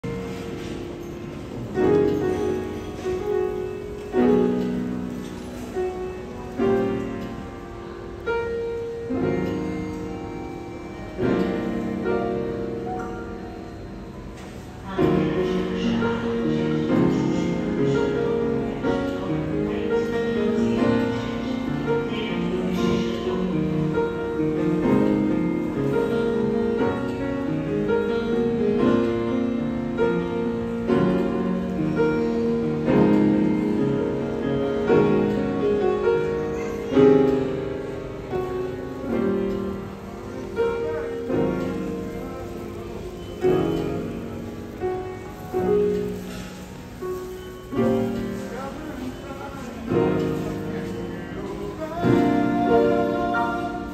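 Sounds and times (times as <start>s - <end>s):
piano playing: 0.0s - 53.9s.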